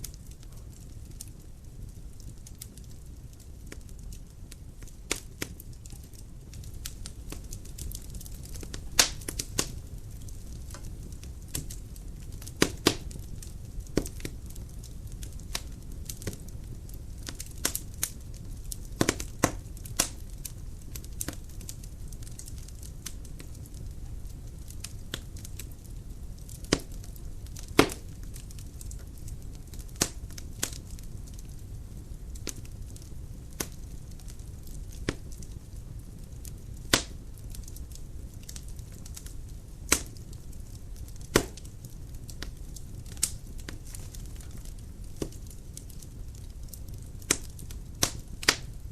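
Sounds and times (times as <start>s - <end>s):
firewood crackling and popping: 0.0s - 48.9s
low rumble of flames: 0.0s - 48.9s.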